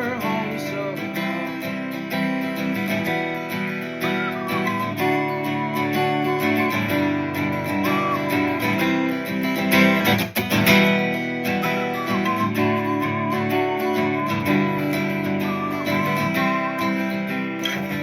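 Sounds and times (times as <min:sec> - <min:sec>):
acoustic guitar strummed: 0:00.0 - 0:18.0.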